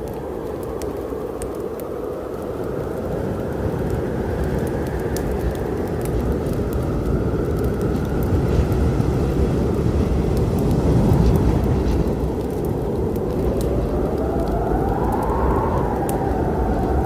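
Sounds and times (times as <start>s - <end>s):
low storm rumble: 0.0s - 17.0s
wood fire crackling: 0.0s - 17.0s.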